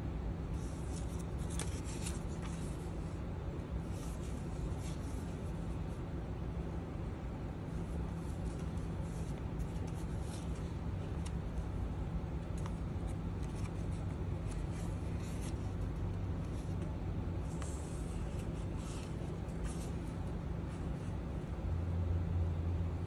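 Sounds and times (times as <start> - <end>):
steady low hum: 0.0 - 23.0
paper pages rustling: 0.5 - 6.0, 7.7 - 21.3.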